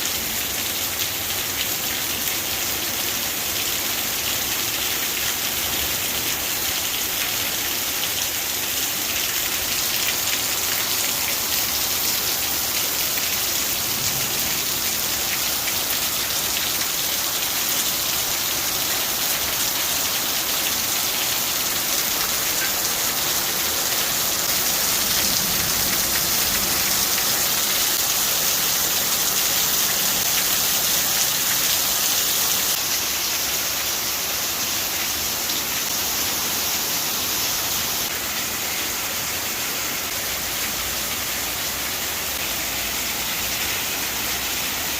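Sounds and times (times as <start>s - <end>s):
heavy rain patter: 0.0s - 44.9s.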